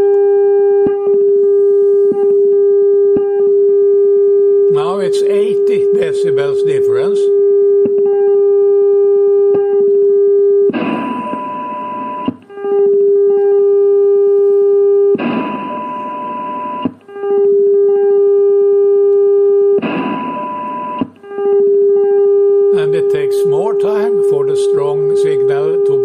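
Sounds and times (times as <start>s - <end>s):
loud low test tone: 2.2s - 26.0s.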